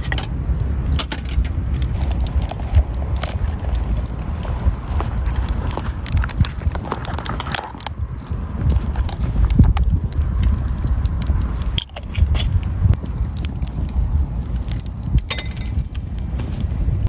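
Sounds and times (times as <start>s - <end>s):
campfire crackling and popping: 0.0s - 17.0s
low rumble: 0.0s - 17.0s.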